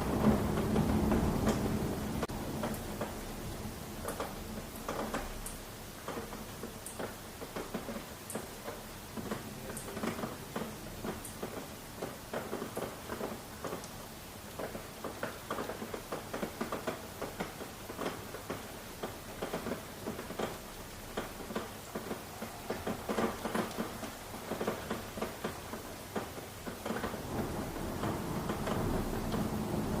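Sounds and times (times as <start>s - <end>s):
raindrops tapping on hard surface: 0.0s - 30.0s.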